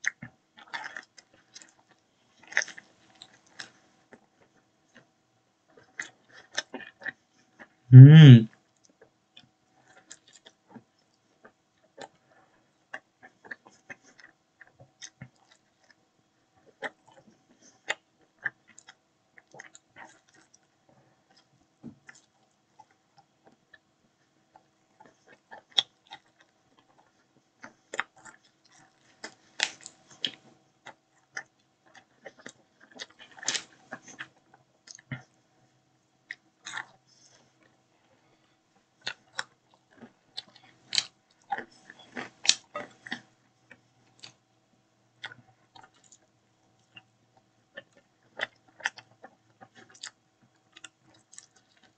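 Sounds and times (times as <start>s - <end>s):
person chewing pizza: 0.0s - 5.1s, 5.7s - 9.0s, 9.8s - 16.0s, 16.6s - 35.4s, 36.2s - 44.5s, 45.2s - 51.9s.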